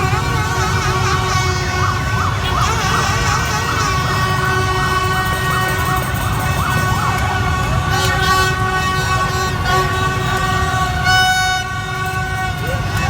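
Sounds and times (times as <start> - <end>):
horns blaring: 0.0 - 13.0
motorbike engines rumbling: 0.0 - 13.0
shrill horn toot: 0.0 - 13.0.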